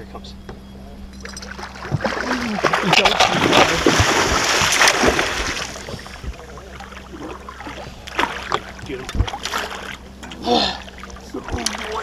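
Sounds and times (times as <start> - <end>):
water splashing and churning: 1.2 - 12.0.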